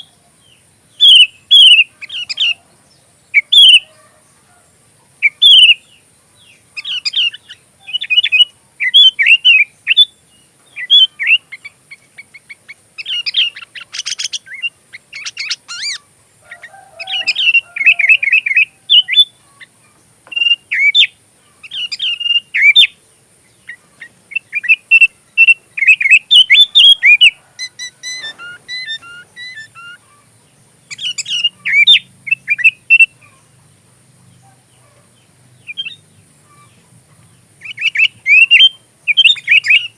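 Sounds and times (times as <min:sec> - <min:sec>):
bird whistled song: 0:00.0 - 0:02.6, 0:03.3 - 0:04.0, 0:05.2 - 0:06.0, 0:06.8 - 0:19.7, 0:20.3 - 0:33.4, 0:35.6 - 0:36.8, 0:37.6 - 0:39.9
harsh buzzy bird chatter: 0:00.0 - 0:39.9.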